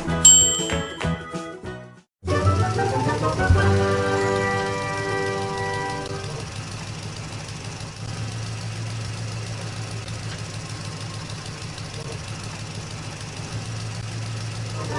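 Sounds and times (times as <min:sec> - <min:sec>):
vehicle engine idling: 0:02.6 - 0:14.9.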